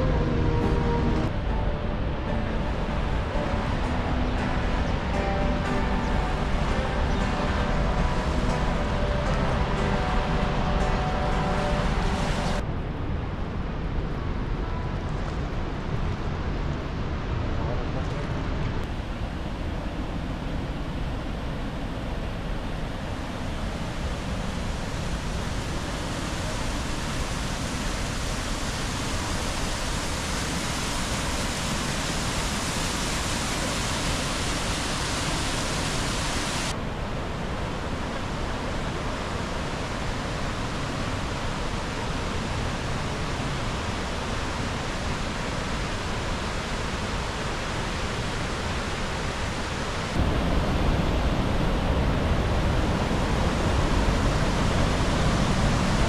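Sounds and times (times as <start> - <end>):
waterfall rushing: 0.0 - 12.6, 18.8 - 56.0.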